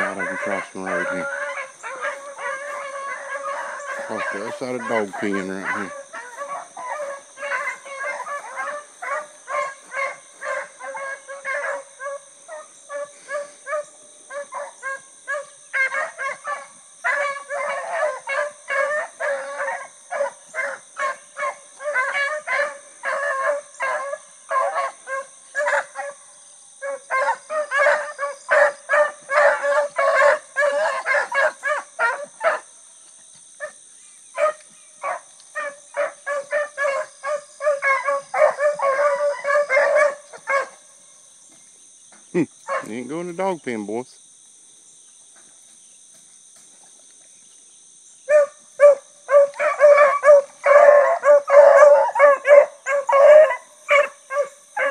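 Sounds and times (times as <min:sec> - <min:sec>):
dogs baying and barking: 0:00.0 - 0:32.8, 0:33.5 - 0:41.0, 0:42.2 - 0:43.5, 0:48.3 - 0:54.9.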